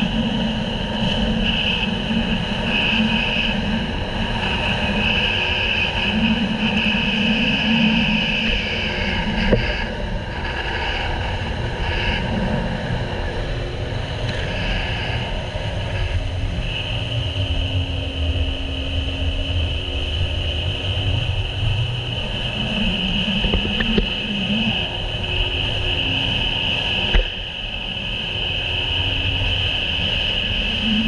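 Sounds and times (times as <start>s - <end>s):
jet ski engine whine: 0.0s - 31.0s
wind rumble on microphone: 0.0s - 31.0s.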